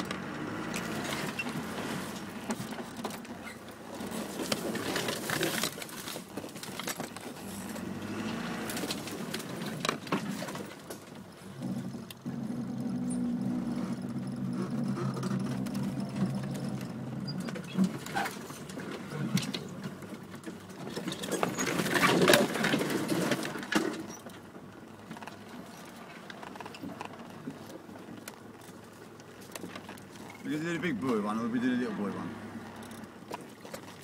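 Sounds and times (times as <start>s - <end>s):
branches scraping along car: 0.0s - 34.0s
car engine running at low speed: 0.0s - 34.0s.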